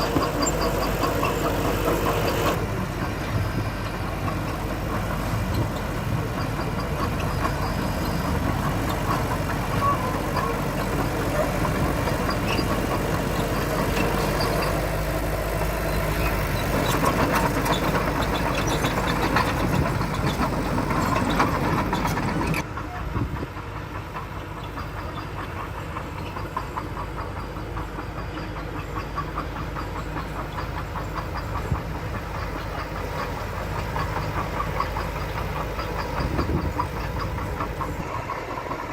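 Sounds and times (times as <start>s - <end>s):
heavy machinery diesel engines: 0.0s - 38.9s.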